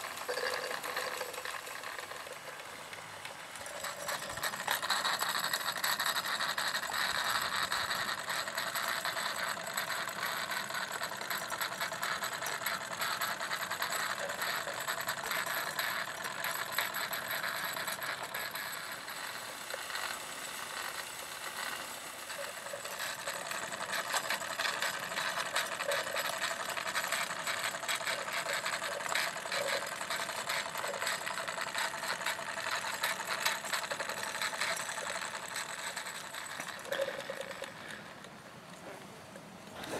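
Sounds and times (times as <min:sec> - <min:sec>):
toy steam engine rattling: 0:00.0 - 0:39.9.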